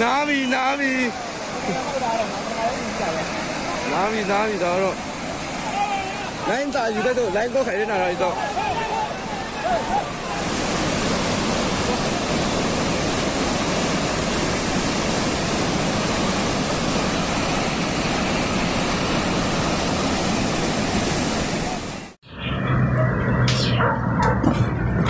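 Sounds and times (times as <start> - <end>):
churning water roaring: 0.0 - 25.0.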